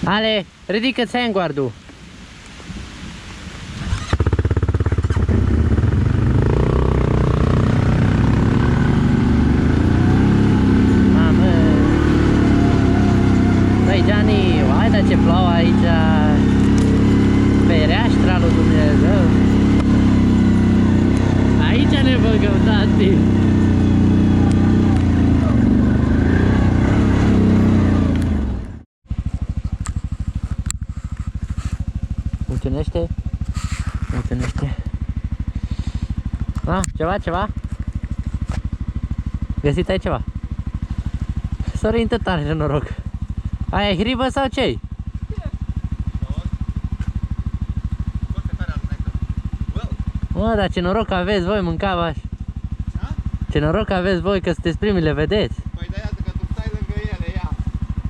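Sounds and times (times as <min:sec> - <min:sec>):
atv engine idling: 0:03.8 - 0:58.0
atv engine revving: 0:03.8 - 0:58.0.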